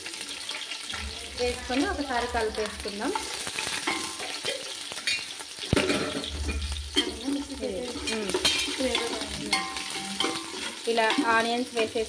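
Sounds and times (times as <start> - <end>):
onions sizzling in oil: 0.0 - 12.0
metal spoon scraping pot: 0.9 - 11.9.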